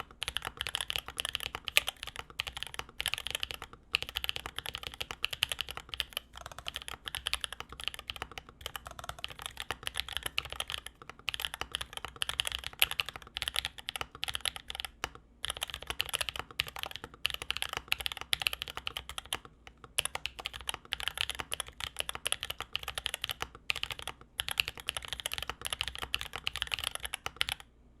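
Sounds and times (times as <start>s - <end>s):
mechanical keyboard typing: 0.0s - 27.7s.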